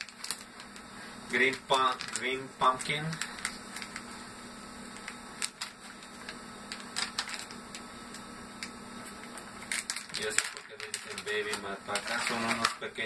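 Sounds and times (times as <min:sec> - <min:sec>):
plastic bag crinkling: 0:00.0 - 0:04.2, 0:04.9 - 0:13.0
faint steady hum: 0:00.0 - 0:13.0.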